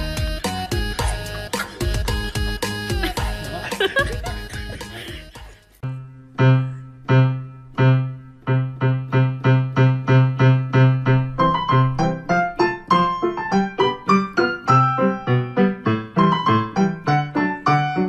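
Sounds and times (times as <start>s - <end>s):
high keyboard melody: 0.0s - 18.0s.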